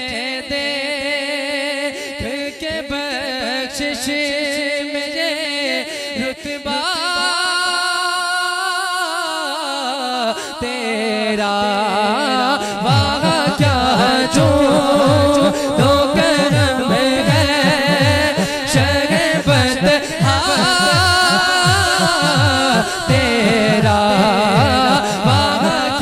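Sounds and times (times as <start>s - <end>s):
man singing into a microphone: 0.0s - 26.0s.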